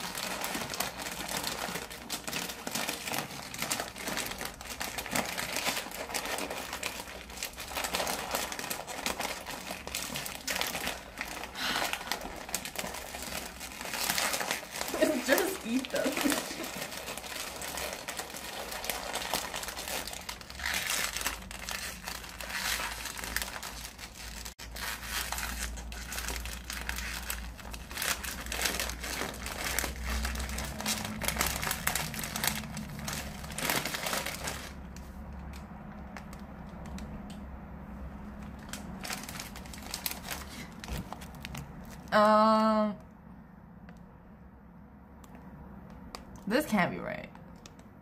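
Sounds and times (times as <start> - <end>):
plastic snack bag crinkling: 0.0 - 37.3, 38.3 - 42.1.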